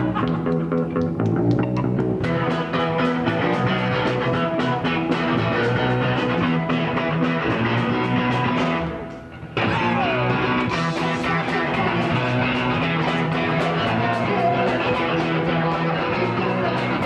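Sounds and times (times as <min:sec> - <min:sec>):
rock music with guitar: 0:00.0 - 0:17.0.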